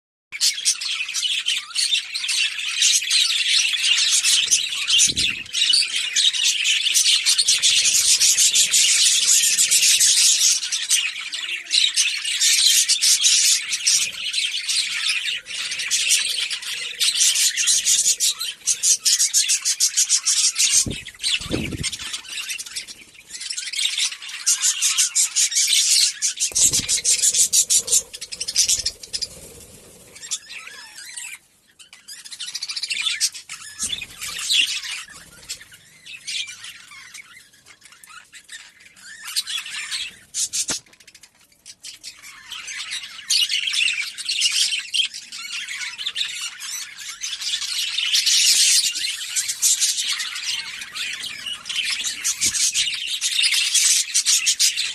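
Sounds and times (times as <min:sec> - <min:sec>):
budgerigars chattering and chirping: 0:00.4 - 0:54.9.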